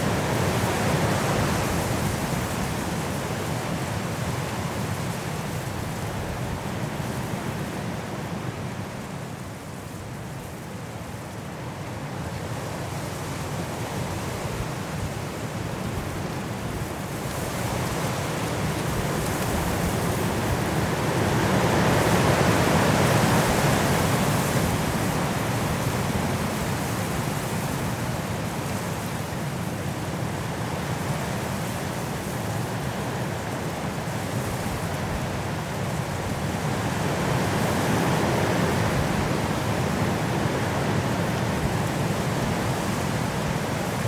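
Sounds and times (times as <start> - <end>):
high wind through trees: 0.0 - 44.0.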